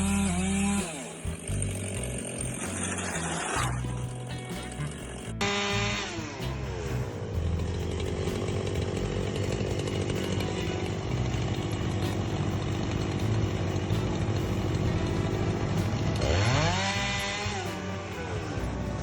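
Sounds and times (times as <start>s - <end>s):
chainsaw engine running: 0.0s - 19.0s.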